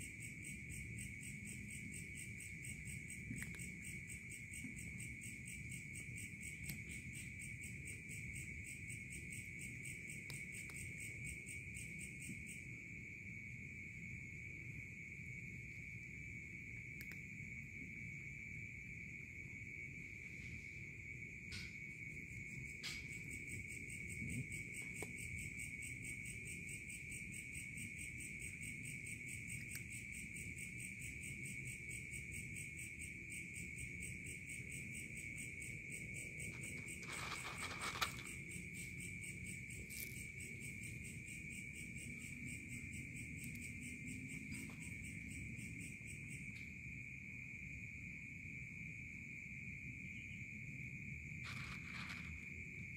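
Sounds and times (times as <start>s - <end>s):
continuous high cricket trill: 0.0s - 52.9s.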